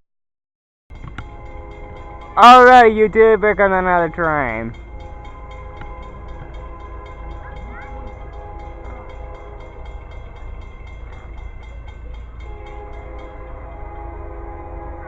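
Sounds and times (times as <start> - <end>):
train rumbling past: 0.9 - 15.0.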